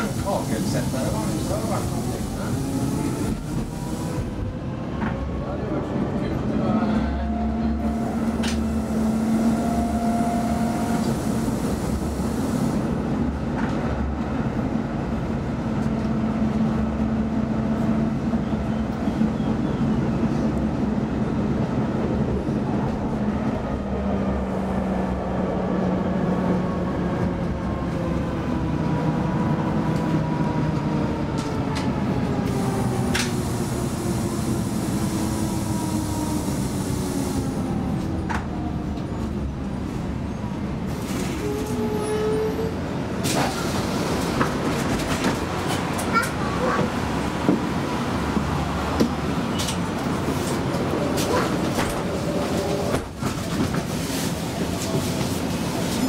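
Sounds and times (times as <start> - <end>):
tram motor hum and wheels on rails: 0.0 - 56.0.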